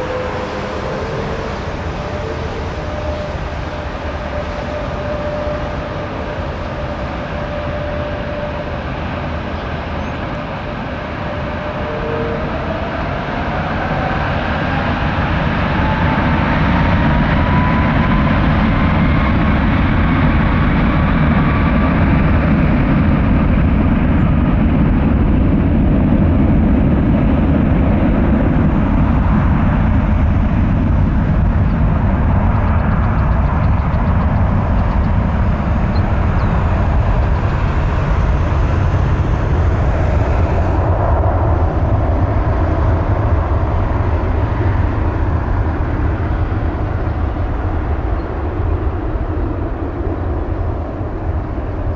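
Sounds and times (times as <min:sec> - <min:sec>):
jet engine roar: 0:00.0 - 0:51.9
jet engine whine: 0:00.0 - 0:51.9.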